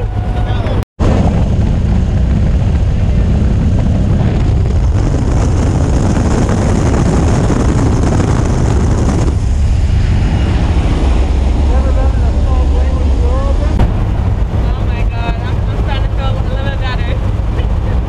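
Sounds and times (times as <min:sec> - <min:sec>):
propeller engine drone: 0:00.0 - 0:18.0
rushing air: 0:00.0 - 0:18.0.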